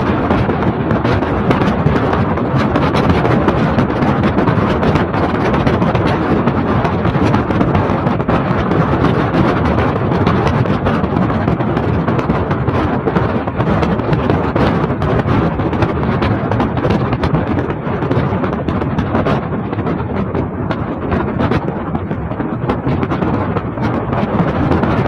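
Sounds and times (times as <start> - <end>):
crackles and knocks: 0.0 - 25.0
wind buffeting microphone: 0.0 - 25.0.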